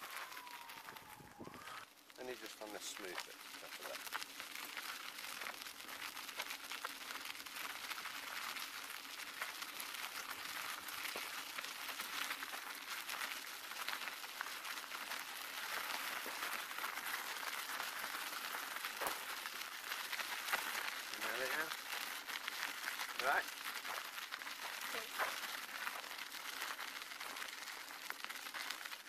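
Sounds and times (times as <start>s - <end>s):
crunching over sand and brick: 0.0s - 29.0s.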